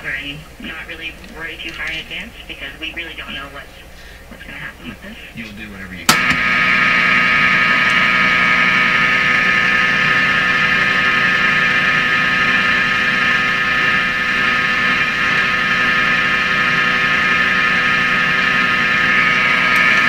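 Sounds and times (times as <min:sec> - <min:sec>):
radio static: 0:00.0 - 0:20.0
steady whining tones: 0:00.0 - 0:20.0.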